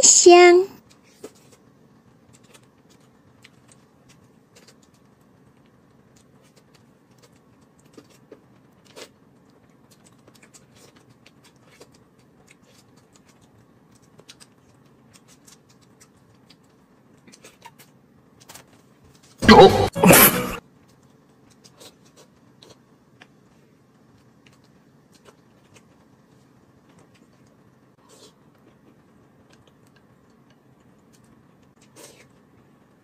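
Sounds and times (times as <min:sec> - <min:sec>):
chewing: 0:00.9 - 0:19.2, 0:20.9 - 0:32.7.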